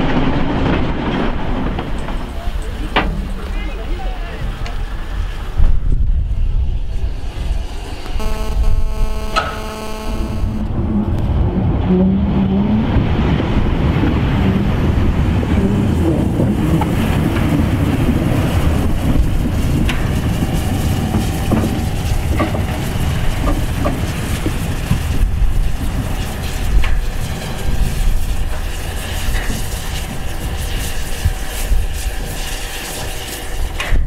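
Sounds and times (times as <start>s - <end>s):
steam locomotive rumble and hiss: 0.0s - 8.2s, 9.6s - 34.0s.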